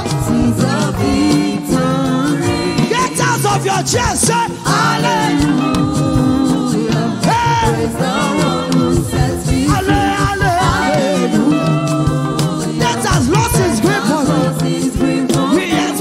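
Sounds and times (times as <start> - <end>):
gospel praise music: 0.0 - 16.0
person singing: 0.0 - 16.0.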